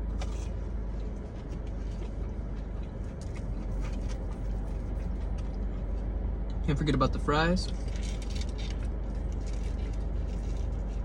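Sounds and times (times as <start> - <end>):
car low rumble: 0.0 - 11.0
chewing food: 0.1 - 6.6, 7.8 - 11.0.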